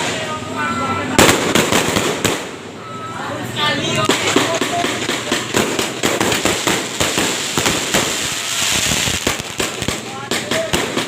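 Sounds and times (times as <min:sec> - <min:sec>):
fireworks and firecrackers banging: 0:00.0 - 0:02.8, 0:03.8 - 0:11.0.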